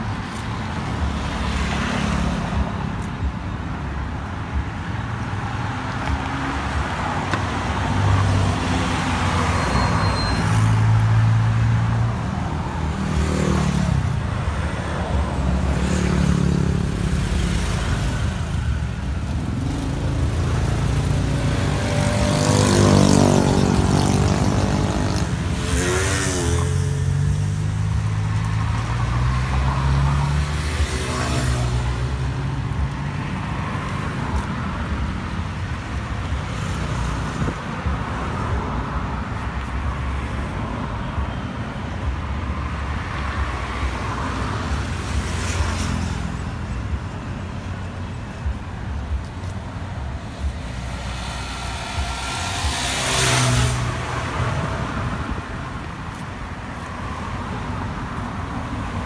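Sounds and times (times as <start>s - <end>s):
traffic engine rumble: 0.0s - 59.0s
vehicles passing: 0.0s - 59.0s.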